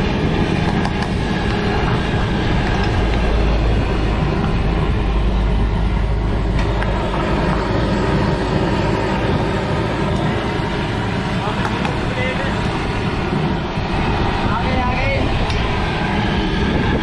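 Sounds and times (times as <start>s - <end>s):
heavy road traffic rumble: 0.0s - 17.0s.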